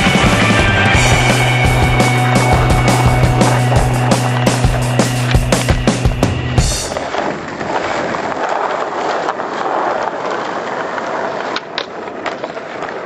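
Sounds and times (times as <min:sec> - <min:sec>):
skateboard clacks: 0:00.0 - 0:13.0
skateboard wheels rolling on concrete: 0:00.0 - 0:13.0.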